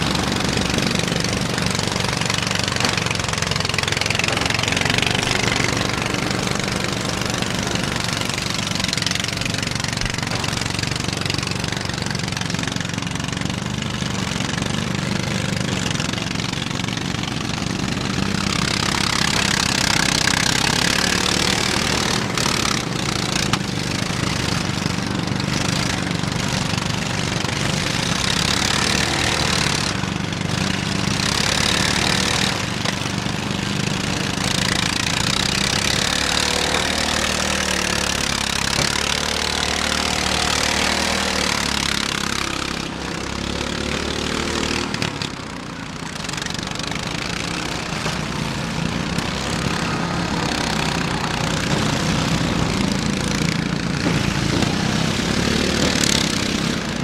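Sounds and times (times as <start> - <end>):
riding lawn mower engines droning: 0.0 - 57.0.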